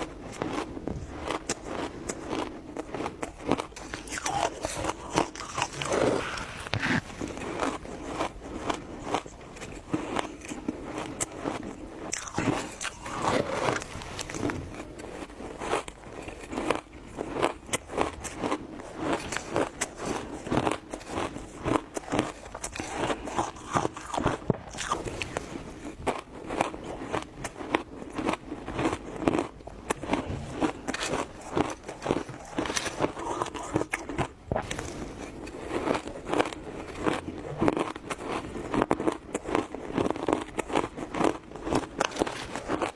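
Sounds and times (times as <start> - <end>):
person chewing crunchy ice: 0.0 - 42.9.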